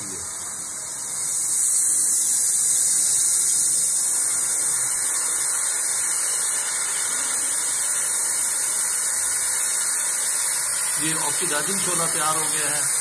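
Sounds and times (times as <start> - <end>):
welding torch flame hissing: 0.0 - 13.0.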